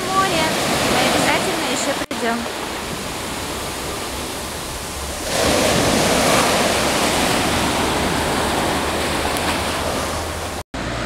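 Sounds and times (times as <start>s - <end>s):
surf washing on sandy beach: 0.0s - 11.0s.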